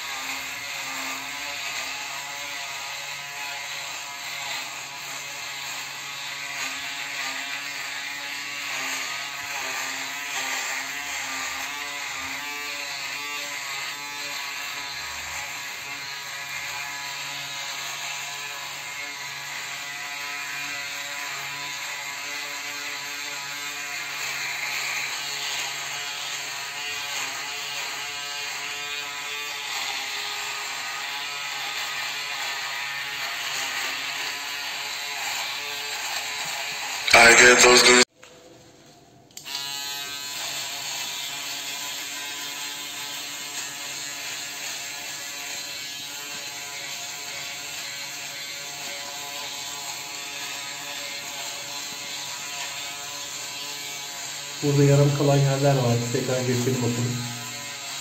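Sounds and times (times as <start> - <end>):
electric shaver buzzing: 0.0 - 38.1, 39.4 - 58.0.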